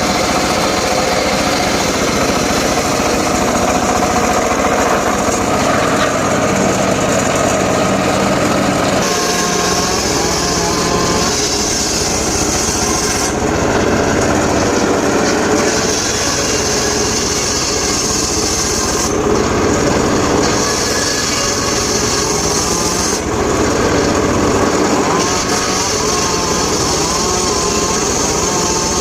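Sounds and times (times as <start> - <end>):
engine-driven saw running: 0.0 - 29.0
saw cutting hiss: 0.0 - 29.0.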